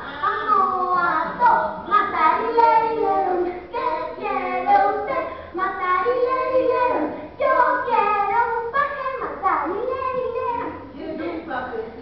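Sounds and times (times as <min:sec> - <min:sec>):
children singing: 0:00.0 - 0:11.5.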